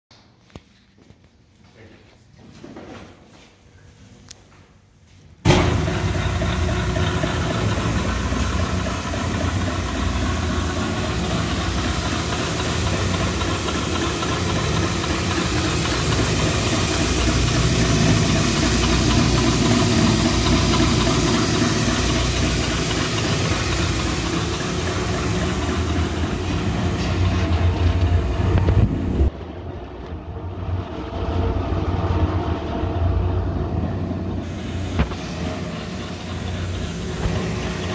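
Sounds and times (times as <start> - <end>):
mixer grinder motor humming: 5.5 - 29.3, 30.0 - 37.9.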